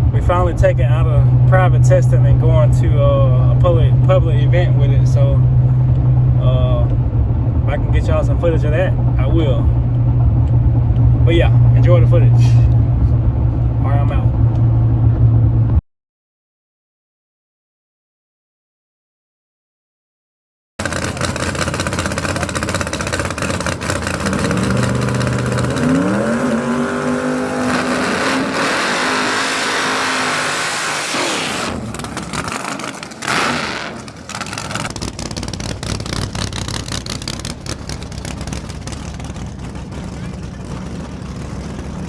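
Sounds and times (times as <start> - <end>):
race car engine revving: 0.0 - 15.8, 20.8 - 42.0.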